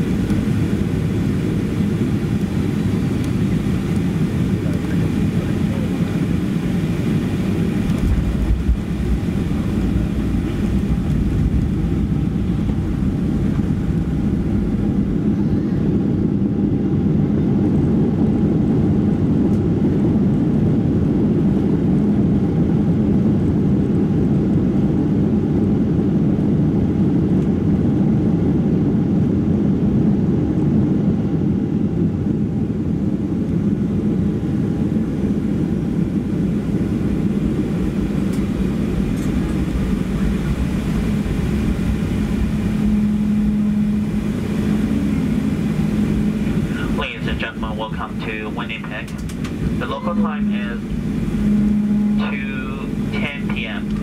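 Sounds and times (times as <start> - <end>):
jet engines and wheels rumbling: 0.0 - 54.0.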